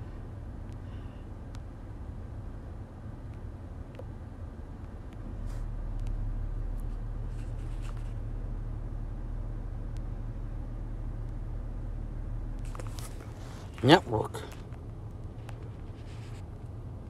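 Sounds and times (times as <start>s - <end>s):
car cabin low rumble: 0.0s - 17.0s.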